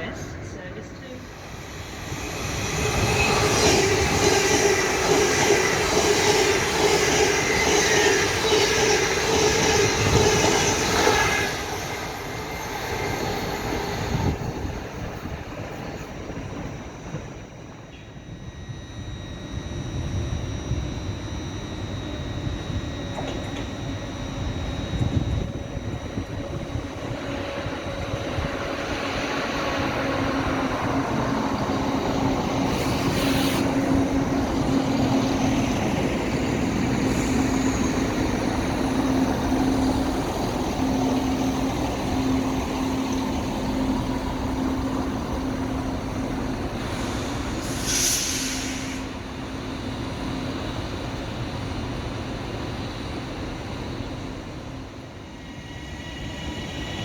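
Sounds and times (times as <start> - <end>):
train running past: 0.0 - 57.0.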